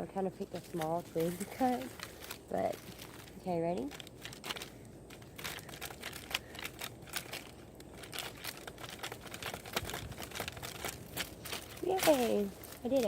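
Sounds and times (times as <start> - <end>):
pocket chainsaw cutting twig: 0.0 - 13.0.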